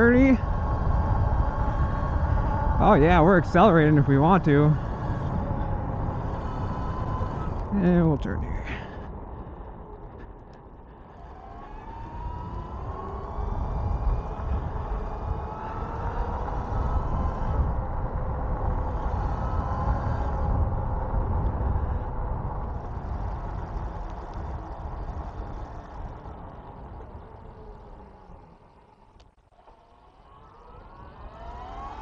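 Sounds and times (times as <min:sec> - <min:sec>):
electric bike motor whining: 0:00.0 - 0:32.0
wind rumbling on microphone: 0:00.0 - 0:32.0.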